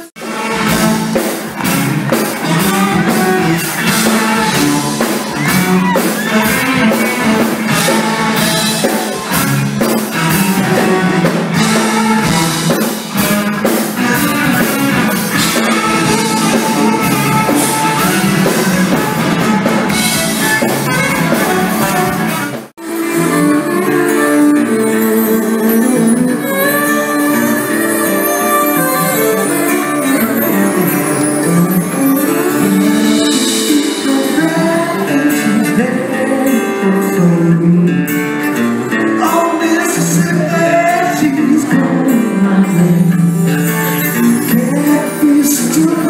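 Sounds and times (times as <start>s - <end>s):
live rock band playing: 0.0s - 46.0s.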